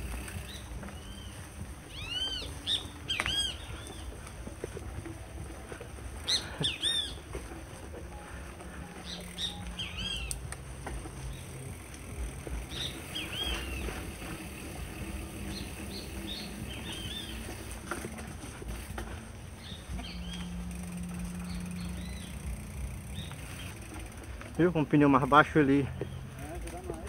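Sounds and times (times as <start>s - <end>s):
bike tyres rumbling on dirt: 0.0s - 27.0s.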